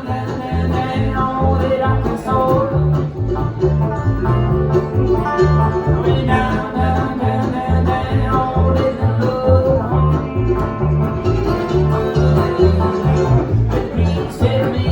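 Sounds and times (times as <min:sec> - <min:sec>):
acoustic guitar: 0:00.0 - 0:14.9
plucked banjo: 0:00.0 - 0:14.9
walking bass line: 0:00.0 - 0:14.9.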